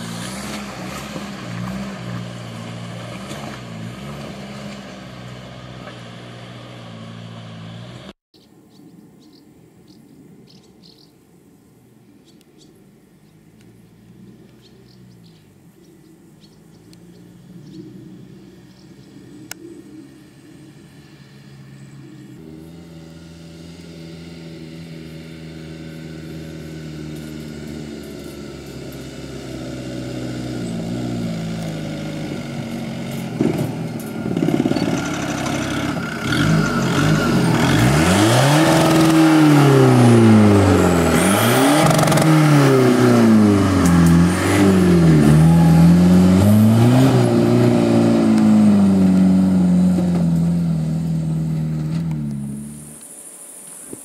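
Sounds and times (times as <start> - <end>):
off-road vehicle engine revving: 0.0 - 8.2, 13.0 - 53.2.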